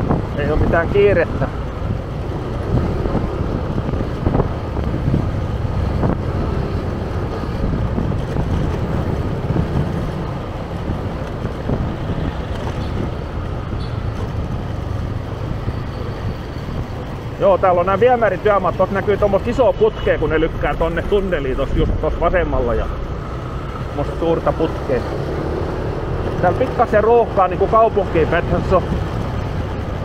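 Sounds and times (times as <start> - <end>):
street traffic: 0.0 - 30.0
wind rumbling on microphone: 0.0 - 30.0.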